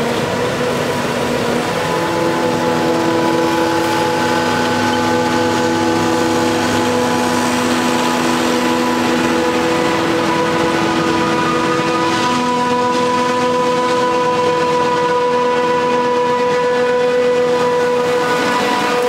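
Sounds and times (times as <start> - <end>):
forage harvester running: 0.0 - 19.0
steady machine whine: 0.0 - 19.0.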